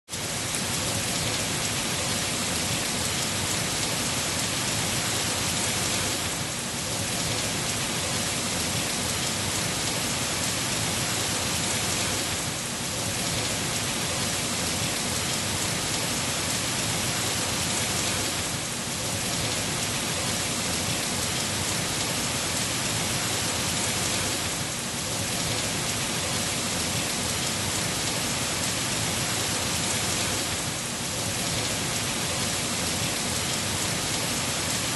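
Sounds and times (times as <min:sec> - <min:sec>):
heavy rain on leafy trees: 0:00.0 - 0:34.9.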